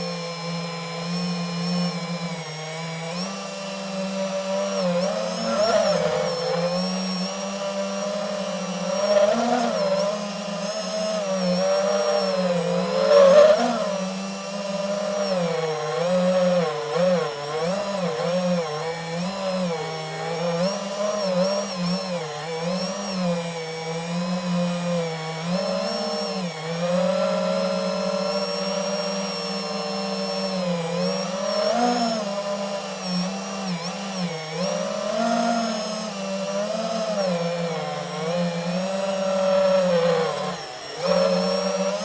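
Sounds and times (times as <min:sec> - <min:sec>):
drone propellers whining: 0:00.0 - 0:42.0.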